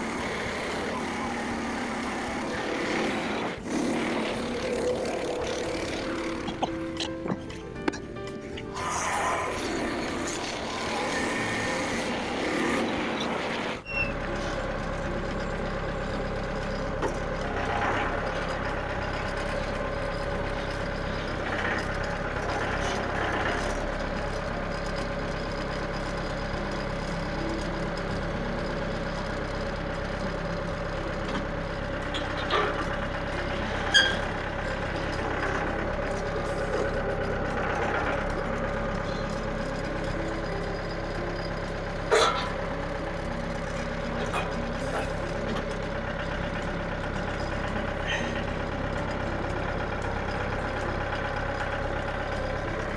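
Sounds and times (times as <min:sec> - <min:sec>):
constant whine: 0:00.0 - 0:52.9
small engine running: 0:00.0 - 0:52.9.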